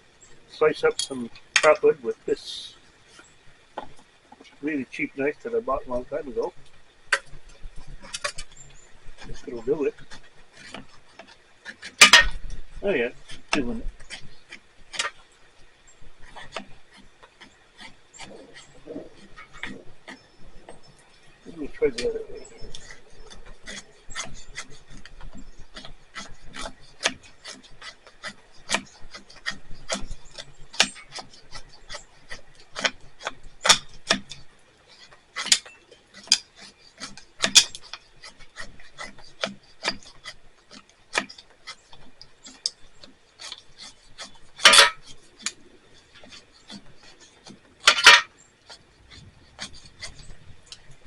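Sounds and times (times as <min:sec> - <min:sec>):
knife scraping wood: 0:02.8 - 0:51.0.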